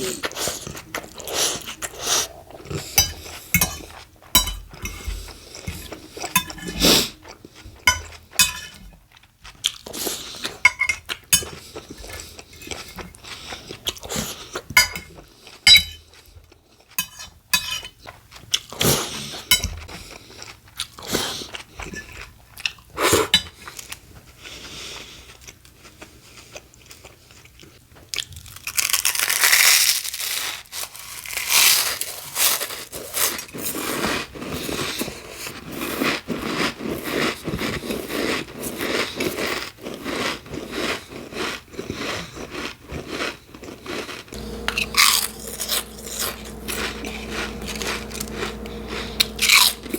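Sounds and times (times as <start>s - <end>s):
chewing and crunching sandwich: 0.0s - 49.9s.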